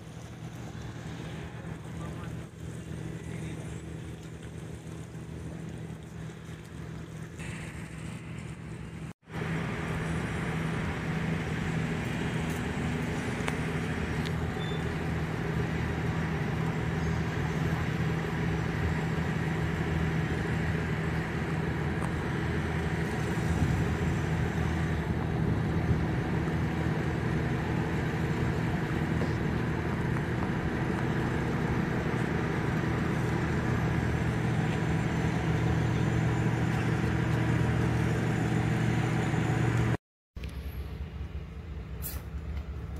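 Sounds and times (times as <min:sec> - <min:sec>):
ship engine humming: 0:00.0 - 0:42.9.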